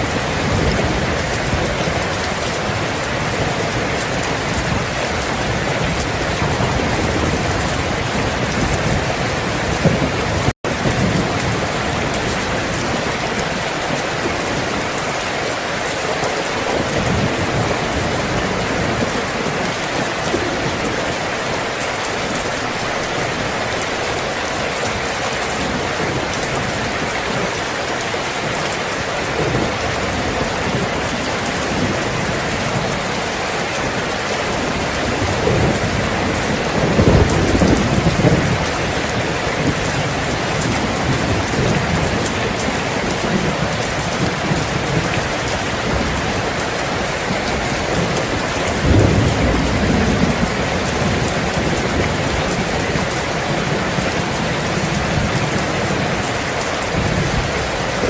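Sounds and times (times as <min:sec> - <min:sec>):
heavy rain falling: 0:00.0 - 0:58.0
thunder rumbling: 0:00.0 - 0:58.0.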